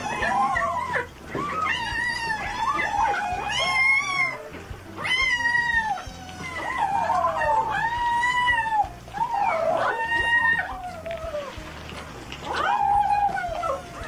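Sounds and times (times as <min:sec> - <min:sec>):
kittens mewing: 0:00.0 - 0:14.0.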